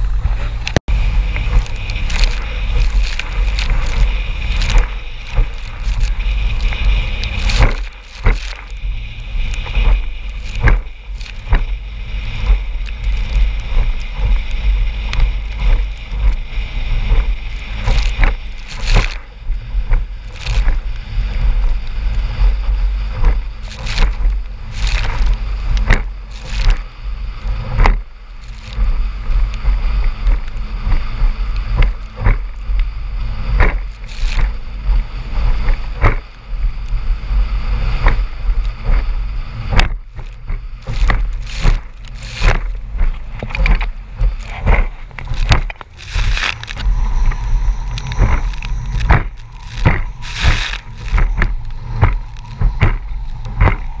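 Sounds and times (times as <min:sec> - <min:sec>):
boat engine rumble: 0:00.0 - 0:54.0
hull slapping waves: 0:00.0 - 0:54.0.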